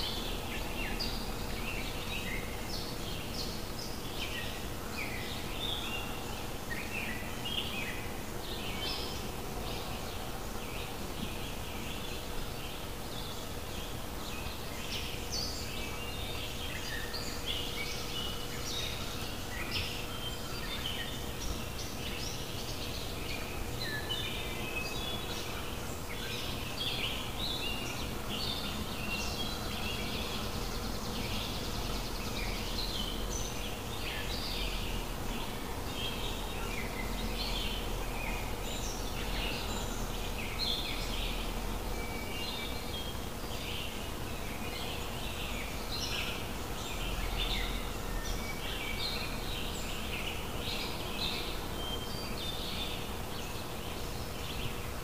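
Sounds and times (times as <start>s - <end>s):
birds chirping and singing: 0.0s - 55.0s
faint steady hum: 0.0s - 55.0s.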